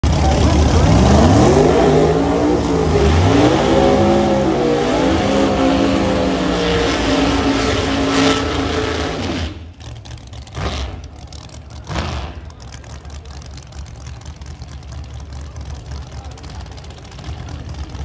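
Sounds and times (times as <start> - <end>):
distant engine noise: 0.0 - 18.0
drag race car engines revving: 0.0 - 18.0.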